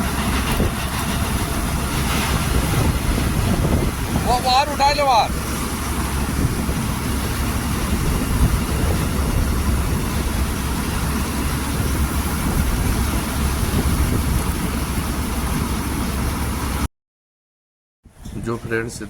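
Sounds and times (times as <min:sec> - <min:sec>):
diesel engine rumbling: 0:00.0 - 0:16.9, 0:18.1 - 0:19.0.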